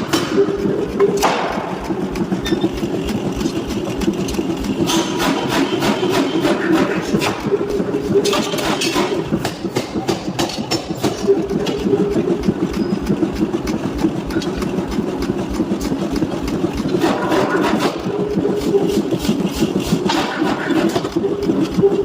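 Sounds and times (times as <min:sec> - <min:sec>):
machinery humming: 0:00.0 - 0:22.0
rapid clatter of knocks: 0:00.0 - 0:22.0.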